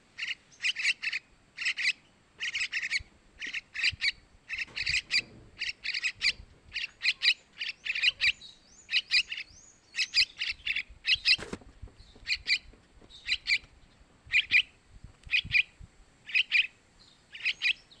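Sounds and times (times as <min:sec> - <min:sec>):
bird chicks chirping: 0:00.2 - 0:18.0.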